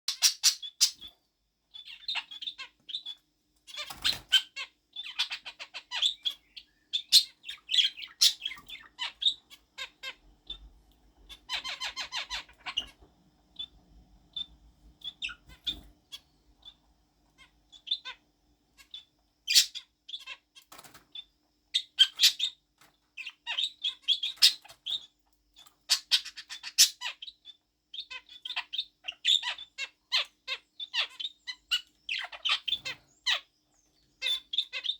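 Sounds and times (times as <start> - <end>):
budgerigar chirping: 0.1 - 1.1, 1.7 - 13.0, 13.6 - 16.8, 17.4 - 18.2, 18.8 - 20.4, 21.1 - 22.6, 23.2 - 33.5, 34.2 - 34.9.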